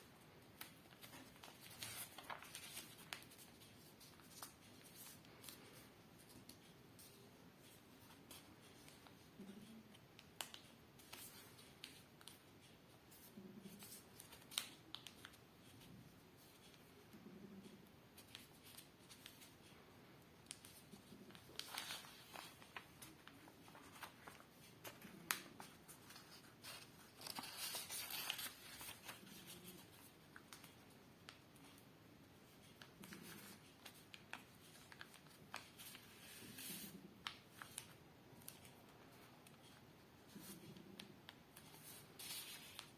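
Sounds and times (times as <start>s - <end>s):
paper being folded: 0.4s - 15.8s, 20.4s - 42.9s.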